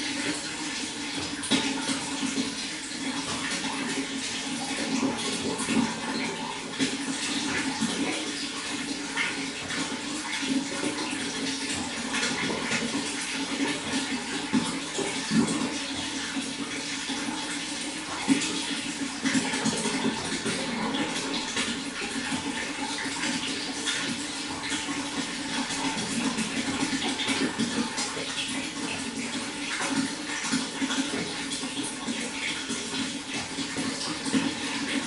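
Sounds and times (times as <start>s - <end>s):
running water splashing: 0.0s - 35.0s.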